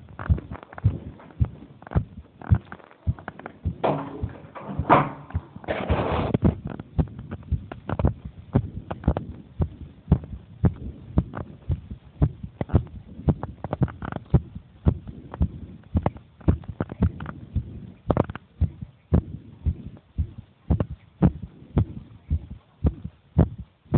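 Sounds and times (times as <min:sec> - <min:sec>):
heartbeat thumps: 0:00.0 - 0:23.9.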